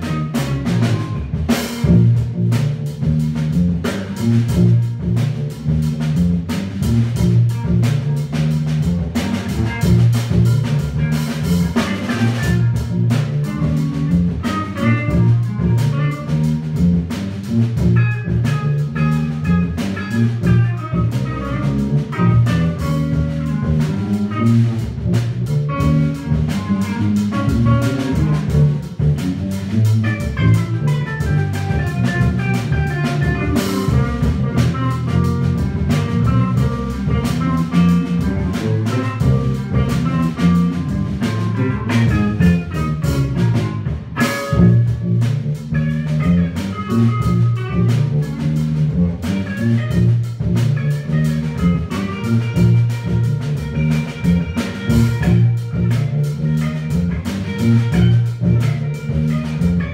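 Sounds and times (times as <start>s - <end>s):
drum kit strokes: 0.0s - 59.9s
electric bass line: 0.0s - 59.9s.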